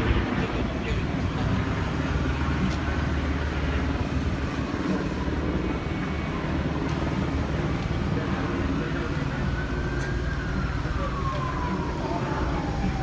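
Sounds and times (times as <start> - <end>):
low engine drone: 0.0 - 13.0
street noise: 0.0 - 13.0.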